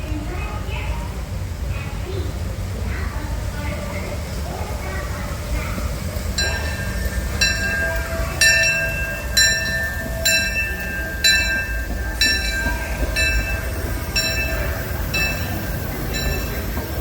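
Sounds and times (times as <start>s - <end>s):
train rolling with low rumble: 0.0s - 17.0s.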